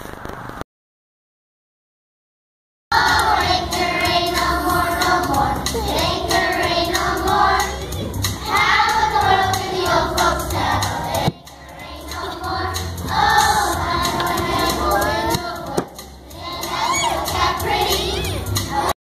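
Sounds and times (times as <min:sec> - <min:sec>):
children's choir singing: 0:02.9 - 0:19.0.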